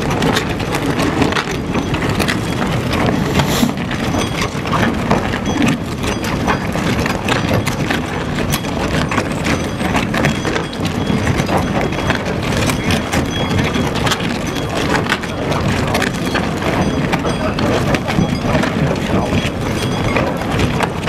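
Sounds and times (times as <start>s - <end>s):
tunnel boring machine rumble: 0.0s - 21.0s.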